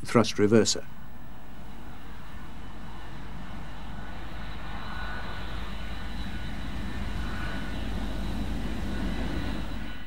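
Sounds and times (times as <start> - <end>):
jet engine rumble and whine: 0.0 - 10.0.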